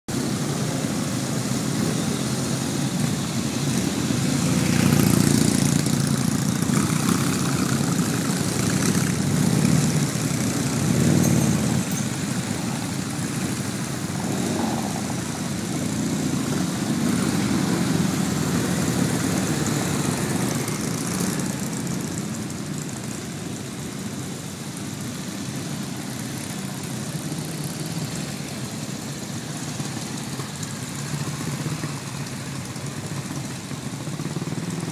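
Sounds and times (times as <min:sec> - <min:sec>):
motorcycles riding past: 0:00.1 - 0:34.9.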